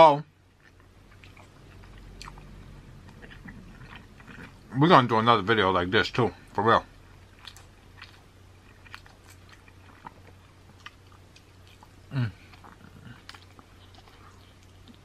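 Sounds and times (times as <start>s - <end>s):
biting and chewing wet food: 0.4s - 6.3s, 7.0s - 15.0s.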